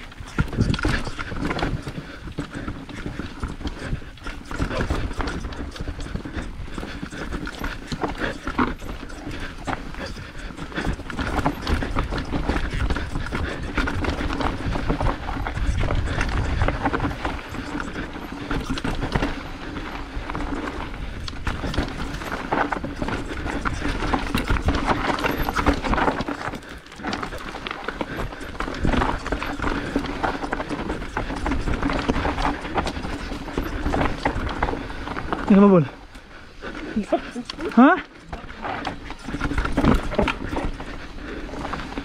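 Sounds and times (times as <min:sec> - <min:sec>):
mountain bike clattering over roots: 0:00.0 - 0:42.0.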